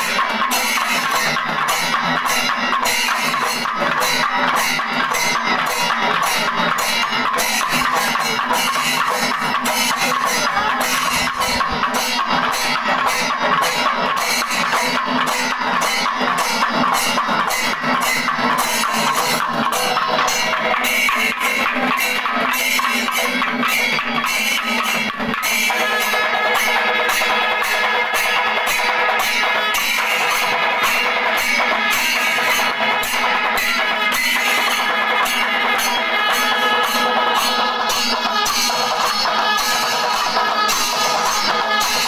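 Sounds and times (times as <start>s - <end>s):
cymbals clashing: 0.0s - 42.0s
fast drum strokes: 0.0s - 42.0s.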